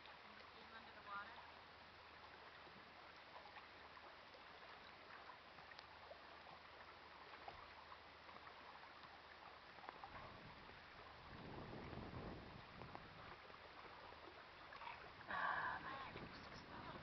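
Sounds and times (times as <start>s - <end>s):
small ticks and splashes: 0.0s - 15.3s
small waves lapping: 0.0s - 17.0s.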